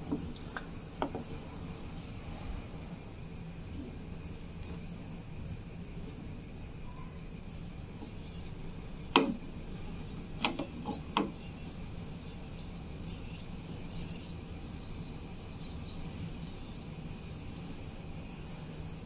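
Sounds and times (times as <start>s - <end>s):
gas burner humming: 0.0s - 19.0s.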